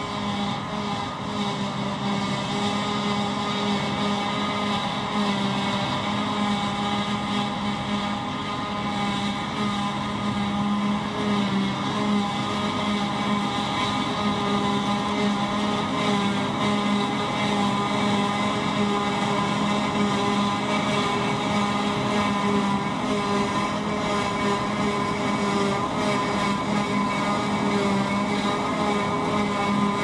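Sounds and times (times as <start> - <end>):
forage harvester engine hum: 0.0 - 30.0.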